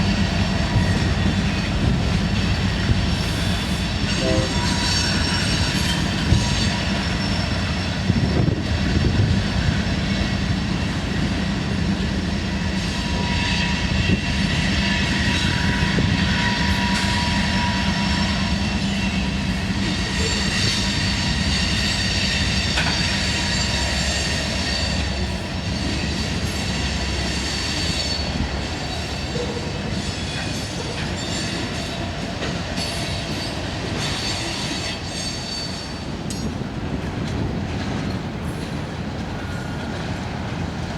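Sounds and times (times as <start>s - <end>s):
locomotive engines rumbling: 0.0s - 40.9s
train wheels squealing on rails: 0.0s - 40.9s.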